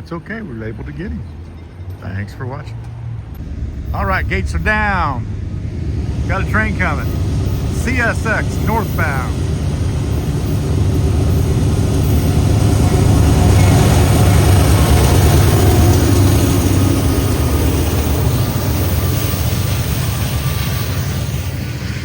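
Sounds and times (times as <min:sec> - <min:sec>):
diesel locomotives rumbling: 0:00.0 - 0:22.0.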